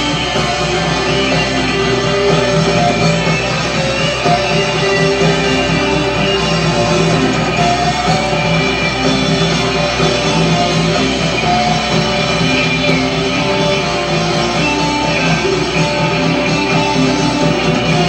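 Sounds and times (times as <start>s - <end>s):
bass: 0.0s - 18.0s
drums: 0.0s - 18.0s
electric guitar: 0.0s - 18.0s
keyboard: 0.0s - 18.0s.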